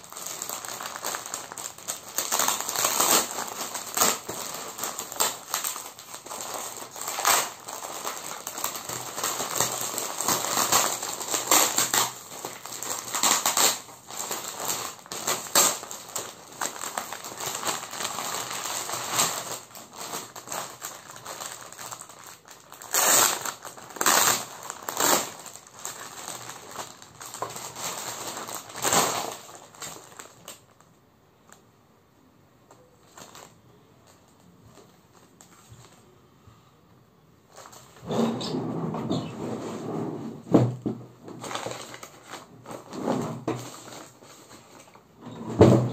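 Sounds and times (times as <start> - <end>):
plastic packaging crinkling: 0.0 - 31.7, 32.7 - 36.2, 37.5 - 39.8, 41.1 - 45.9.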